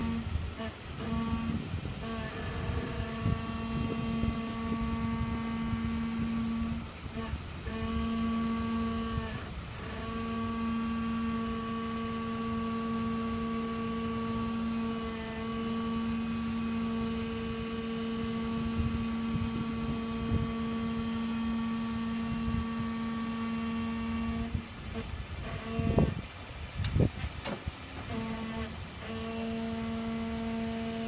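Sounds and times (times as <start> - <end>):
brakes moaning: 0.0 - 31.0
low vehicle rumble: 0.0 - 31.0.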